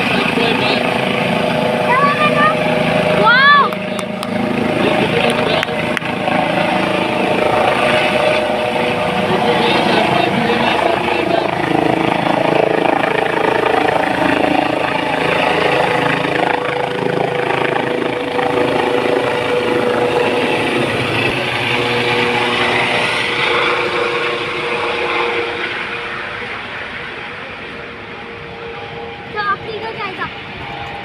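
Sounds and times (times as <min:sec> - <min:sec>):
helicopter whine: 0:00.0 - 0:31.0.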